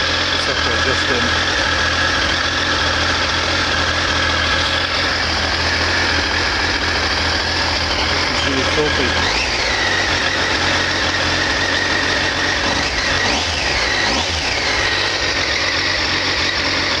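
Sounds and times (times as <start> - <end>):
motorcycle engine idling: 0.0 - 17.0
thin whine: 0.0 - 17.0.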